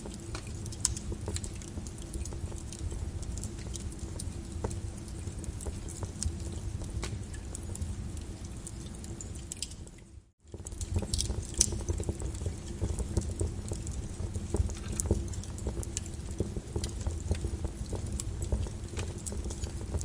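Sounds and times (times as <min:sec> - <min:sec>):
lava crackling and popping: 0:00.0 - 0:20.0
low steady rumble: 0:00.0 - 0:20.0.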